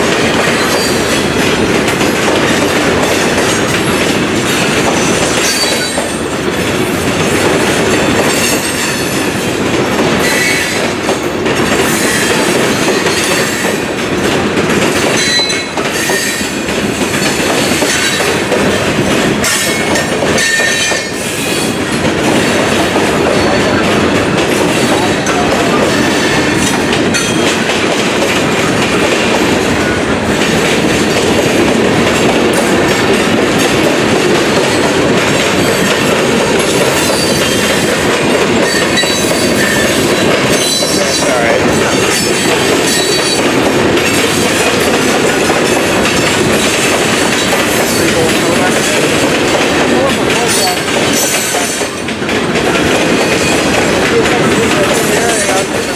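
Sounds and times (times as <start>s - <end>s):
train wheels clattering over rails: 0.0s - 55.9s.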